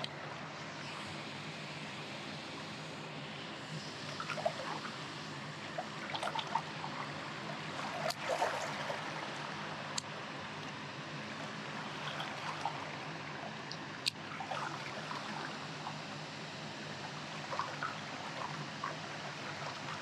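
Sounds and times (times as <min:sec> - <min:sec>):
river water flowing: 0:03.5 - 0:20.0.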